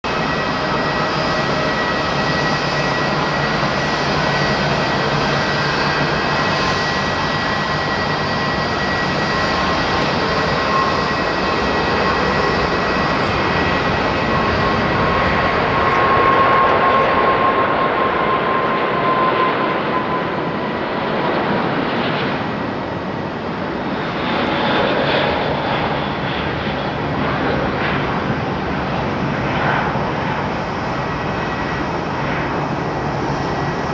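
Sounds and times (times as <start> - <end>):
jet engines at takeoff: 0.0 - 33.9.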